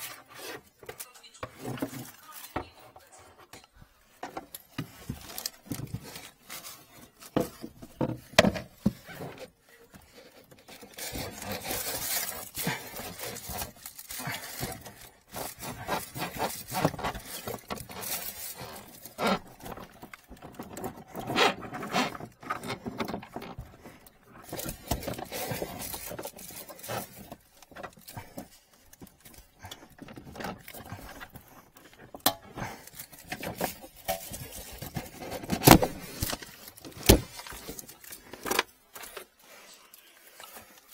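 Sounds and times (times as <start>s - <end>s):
plastic packets rustling: 0.0s - 40.9s.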